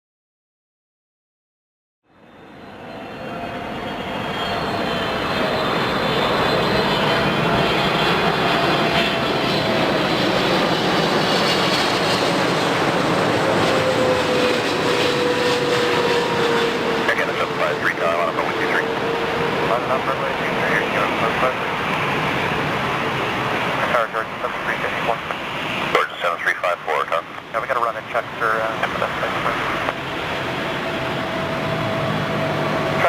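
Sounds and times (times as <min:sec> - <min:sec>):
jet engines passing: 0:02.1 - 0:33.0.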